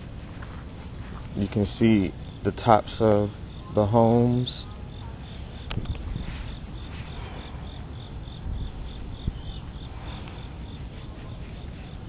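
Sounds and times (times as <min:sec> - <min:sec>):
continuous high buzz: 0:00.0 - 0:12.0
insects chirping: 0:00.0 - 0:12.0.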